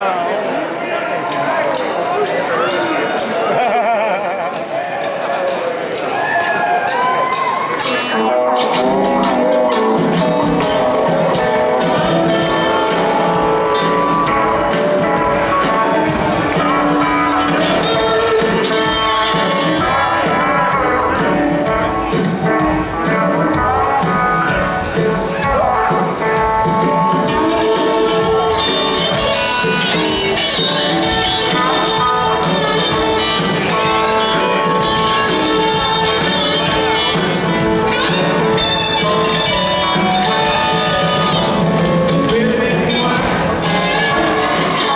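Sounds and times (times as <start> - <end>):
live rock band playing: 6.0 - 44.9.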